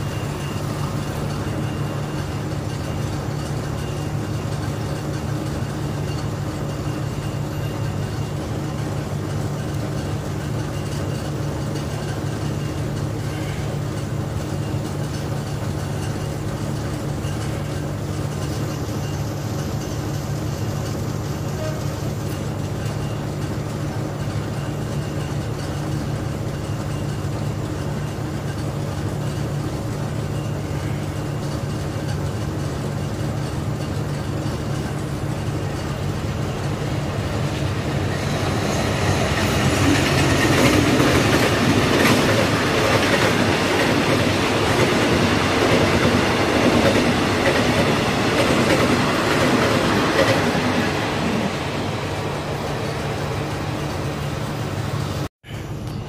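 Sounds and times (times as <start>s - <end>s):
train wheels clattering: 0.0s - 54.2s
train engine hum: 0.0s - 56.0s.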